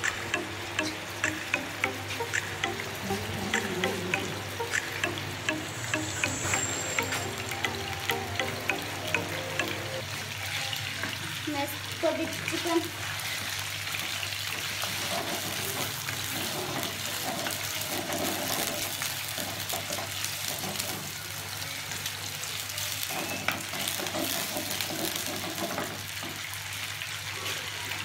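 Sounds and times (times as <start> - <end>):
chicken sizzling in oil: 4.3 - 28.0.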